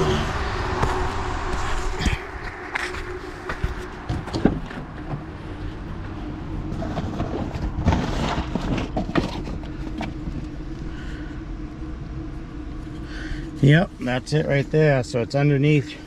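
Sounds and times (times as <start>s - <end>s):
van engine idling: 0.0s - 16.0s.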